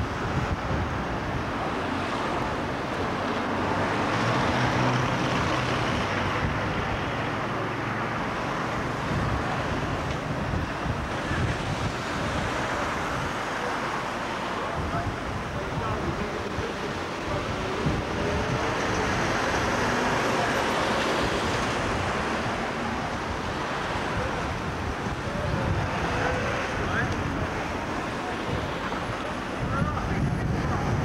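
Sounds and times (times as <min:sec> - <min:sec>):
wind buffeting microphone: 0:00.0 - 0:07.6, 0:08.3 - 0:13.7, 0:14.6 - 0:31.0
cars driving past: 0:00.0 - 0:31.0.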